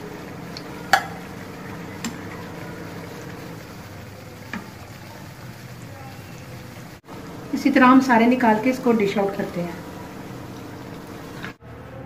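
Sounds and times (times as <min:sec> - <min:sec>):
oil sizzling and bubbling: 0:00.0 - 0:11.8.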